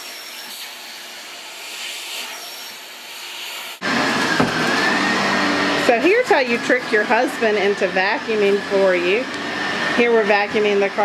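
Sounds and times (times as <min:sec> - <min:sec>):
vacuum cleaner high whine: 0:00.0 - 0:11.0
vacuum cleaner suction hissing: 0:00.0 - 0:11.0.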